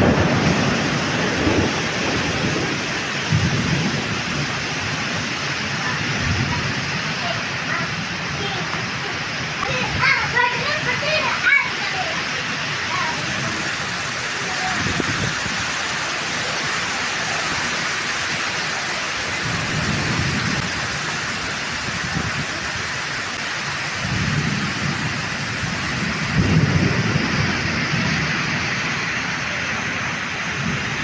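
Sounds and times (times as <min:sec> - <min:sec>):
deep rumbling surges: 0:00.0 - 0:31.0
heavy rain pouring: 0:00.0 - 0:31.0.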